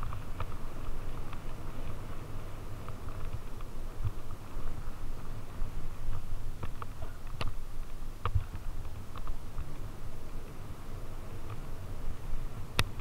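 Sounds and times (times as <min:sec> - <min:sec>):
bike rolling on dirt trail: 0:00.0 - 0:13.0.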